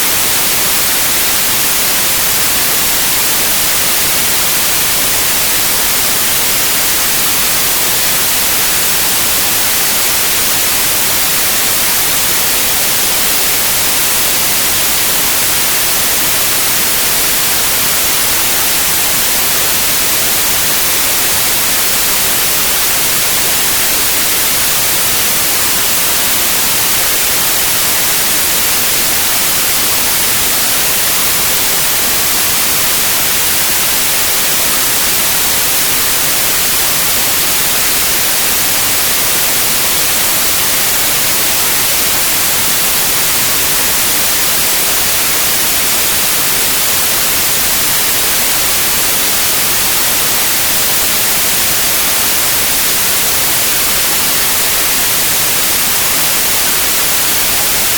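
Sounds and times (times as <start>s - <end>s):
white noise hiss: 0.0s - 57.9s.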